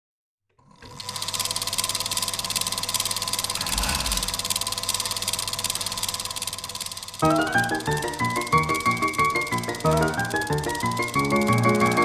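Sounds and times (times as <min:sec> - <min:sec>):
film projector running: 0:00.6 - 0:12.0.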